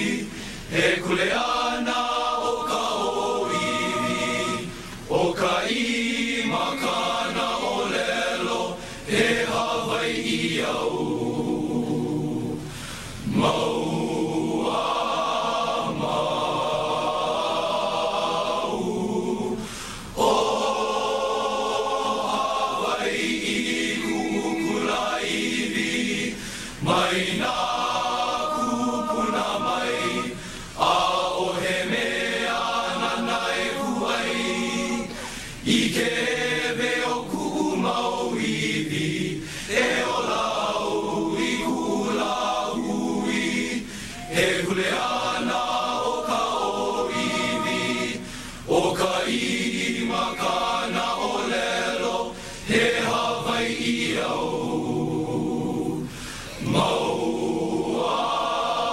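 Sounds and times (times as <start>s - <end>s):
group of voices singing: 0.0s - 58.9s.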